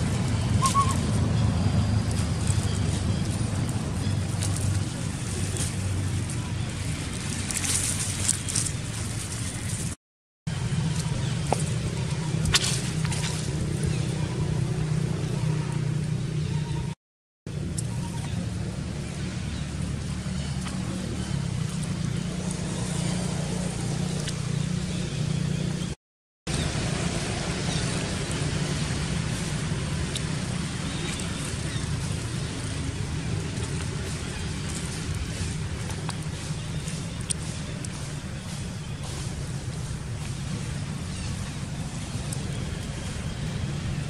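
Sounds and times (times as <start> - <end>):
low outdoor background rumble: 0.0 - 9.9, 10.5 - 44.0.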